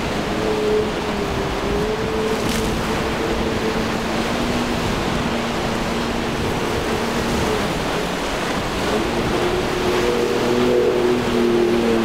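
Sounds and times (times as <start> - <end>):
boat engines humming: 0.0 - 12.0
waves breaking: 0.0 - 12.0.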